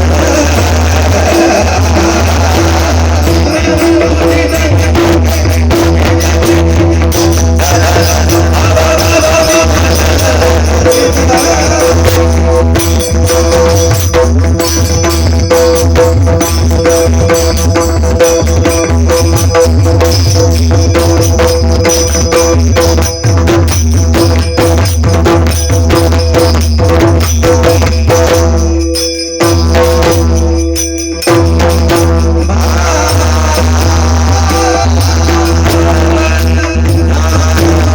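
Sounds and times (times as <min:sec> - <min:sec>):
steady held tones: 0:00.0 - 0:37.9.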